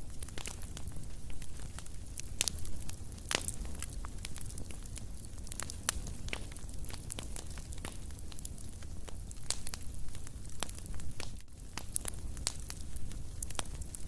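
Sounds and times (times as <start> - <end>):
low rumble of burning fire: 0.0 - 14.0
wood fire crackling and popping: 0.0 - 14.0.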